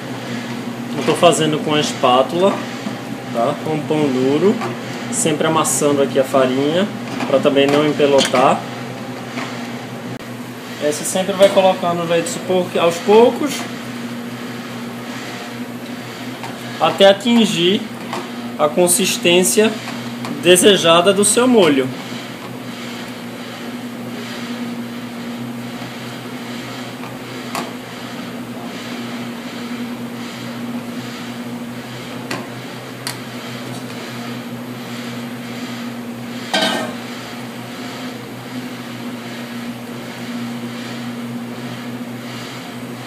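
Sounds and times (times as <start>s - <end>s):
machine hum: 0.0s - 43.0s.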